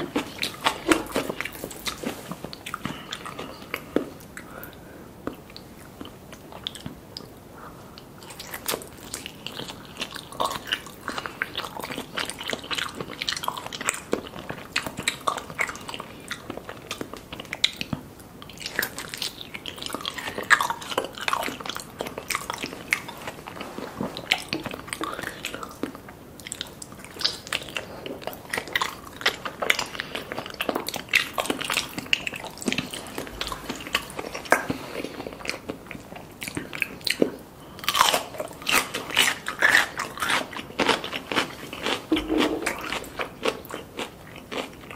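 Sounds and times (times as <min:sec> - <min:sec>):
wet chewing mouth sounds: 0:00.0 - 0:07.4, 0:08.0 - 0:44.9.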